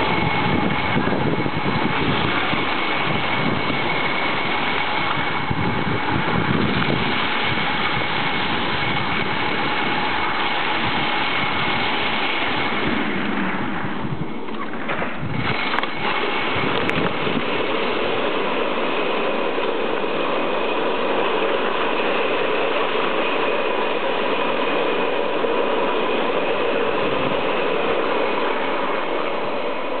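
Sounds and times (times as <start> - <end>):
slide rollers rattling: 0.0 - 30.0.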